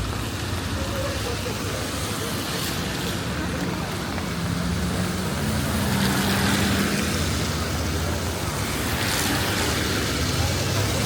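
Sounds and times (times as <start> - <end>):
city noise hiss: 0.0 - 11.0
vehicle engine humming: 0.0 - 11.0.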